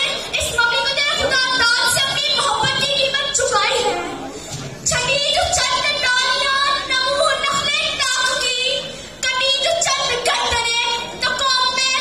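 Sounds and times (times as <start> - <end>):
girl speaking through a microphone: 0.0 - 12.0.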